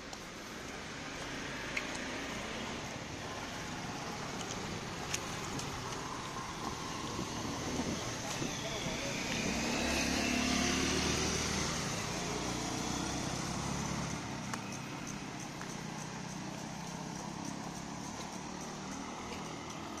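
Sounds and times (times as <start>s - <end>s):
distant traffic rumble: 0.0s - 20.0s
engine hum: 0.0s - 20.0s.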